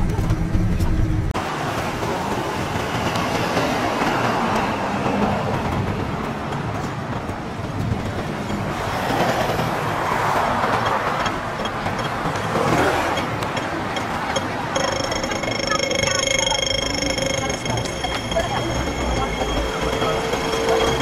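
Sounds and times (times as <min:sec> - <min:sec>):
street traffic noise: 0:00.0 - 0:21.0
vehicles passing: 0:00.0 - 0:21.0.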